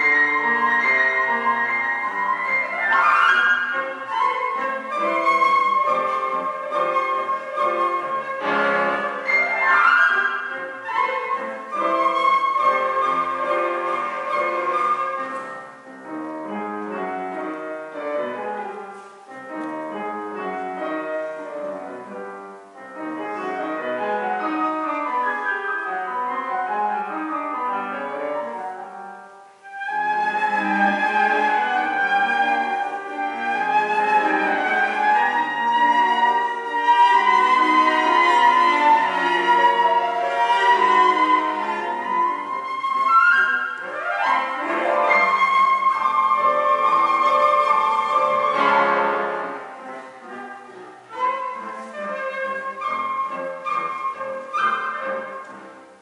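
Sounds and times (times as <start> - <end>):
cello: 0.0 - 56.0
flute melody: 0.0 - 56.0
piano: 0.0 - 56.0.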